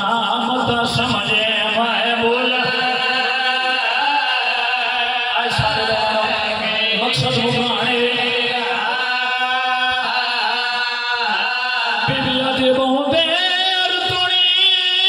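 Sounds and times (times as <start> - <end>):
man chanting over loudspeakers: 0.0 - 15.0.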